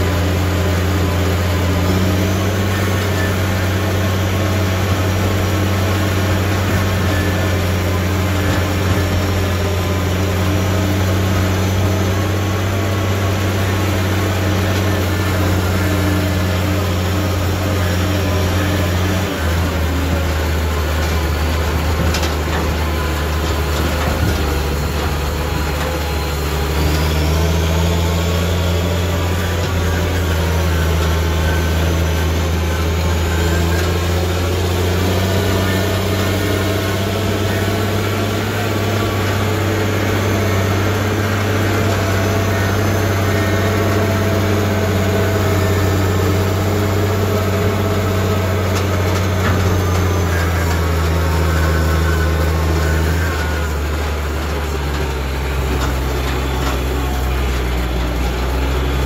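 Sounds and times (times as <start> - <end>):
diesel excavator engine running: 0.0 - 59.0.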